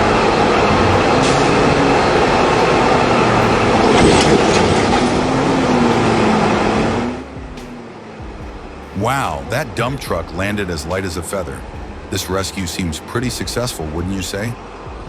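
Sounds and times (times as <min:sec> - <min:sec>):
faint wavering engine tone: 0:00.0 - 0:15.0
heavy vehicle running: 0:00.0 - 0:15.0.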